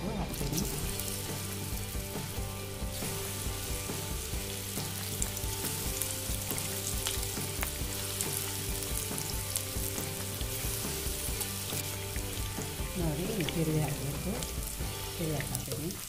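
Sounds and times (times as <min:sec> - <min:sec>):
batter sizzling in hot oil: 0:00.0 - 0:16.0.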